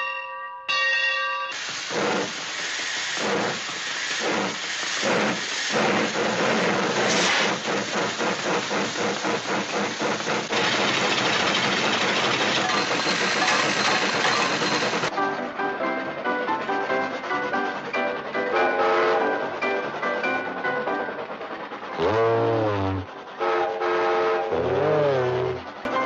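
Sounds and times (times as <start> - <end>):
cartoon steam train chugging: 1.5 - 26.0.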